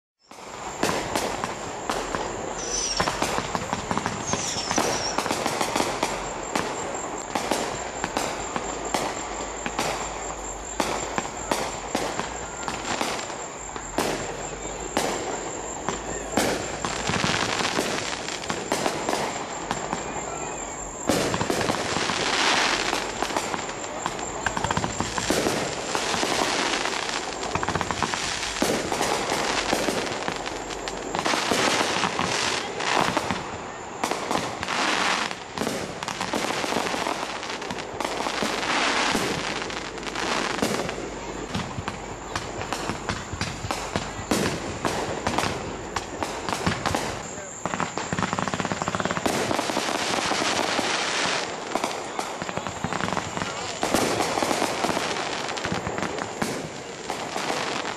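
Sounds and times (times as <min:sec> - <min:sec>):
background noise: 0:00.2 - 0:57.9
fireworks bursting: 0:00.2 - 0:57.9.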